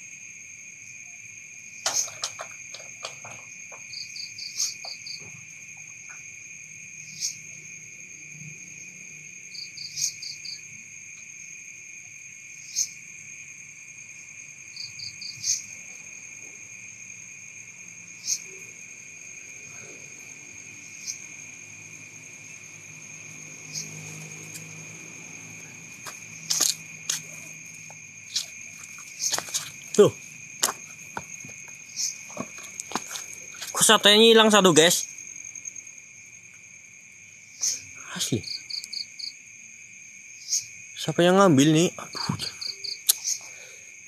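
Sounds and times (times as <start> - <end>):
night insects droning: 0.0 - 44.0.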